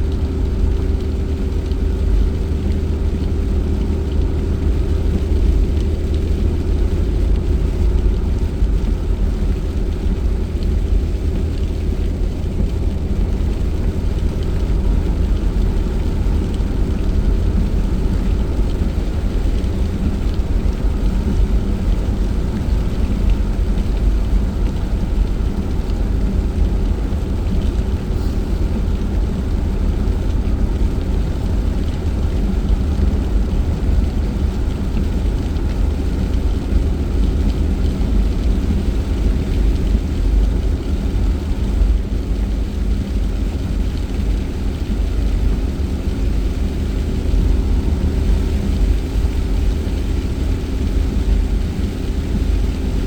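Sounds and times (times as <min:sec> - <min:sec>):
car engine and road rumble: 0:00.0 - 0:53.0
tyre hiss on wet road: 0:07.4 - 0:53.0.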